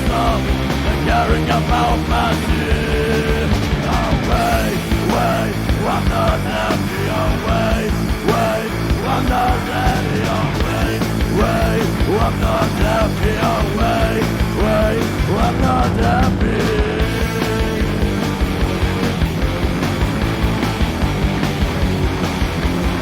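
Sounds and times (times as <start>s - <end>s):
pitch-bending lead guitar line: 0.0s - 23.0s
rock band playing: 0.0s - 23.0s.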